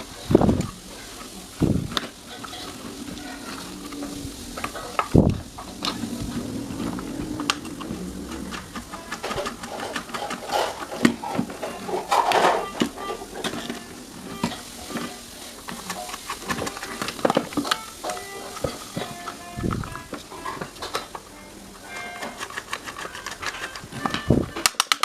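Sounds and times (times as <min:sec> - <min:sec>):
scraping and rubbing: 0:00.0 - 0:25.0.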